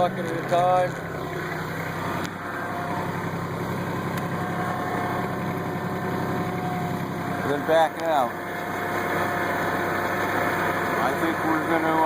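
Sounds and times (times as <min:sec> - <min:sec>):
diesel tractor engine running: 0:00.0 - 0:12.0
high whine: 0:01.0 - 0:12.0.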